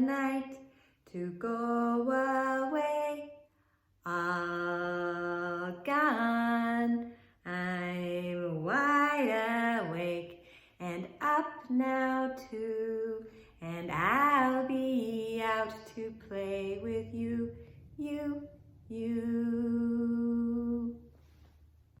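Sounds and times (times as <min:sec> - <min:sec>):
woman singing: 0:00.0 - 0:03.4, 0:04.0 - 0:21.1.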